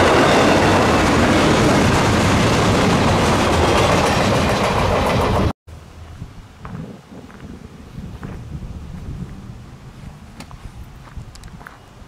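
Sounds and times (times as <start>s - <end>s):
wind rumbling on microphone: 0.6s - 12.0s.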